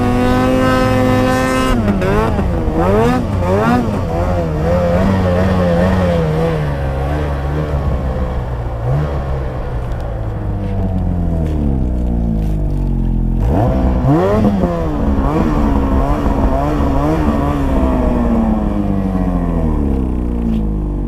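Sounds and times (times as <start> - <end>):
snowmobile engine revving: 0.0 - 20.6.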